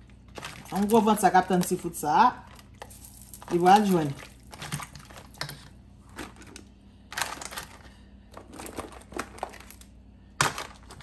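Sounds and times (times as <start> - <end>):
crinkling rustles: 0.0 - 1.8, 2.4 - 11.0.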